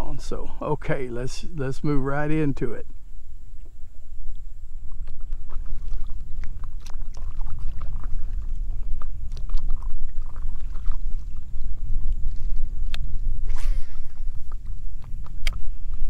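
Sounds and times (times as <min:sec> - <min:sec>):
steady low rumble: 0:00.0 - 0:16.0
water splashing and trickling: 0:01.2 - 0:16.0.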